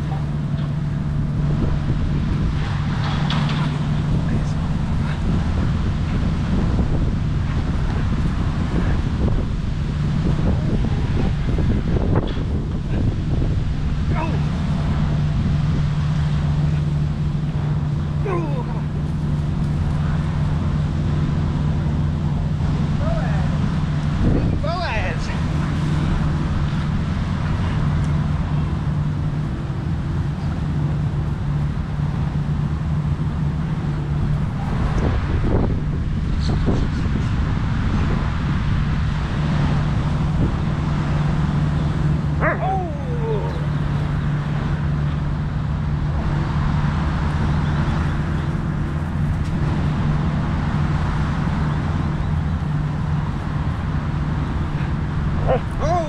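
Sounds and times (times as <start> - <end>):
constant low hum: 0.0 - 56.0
road traffic rumble: 0.0 - 56.0.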